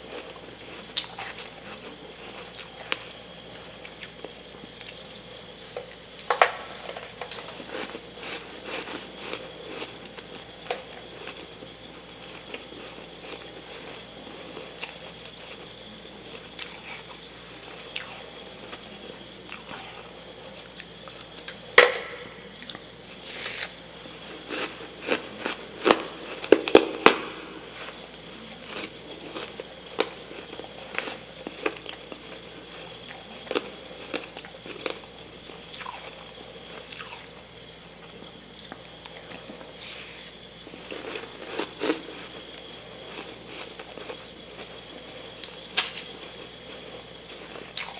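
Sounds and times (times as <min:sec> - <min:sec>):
crunching and chewing frost: 0:00.0 - 0:47.9
faint steady hum: 0:00.0 - 0:47.9.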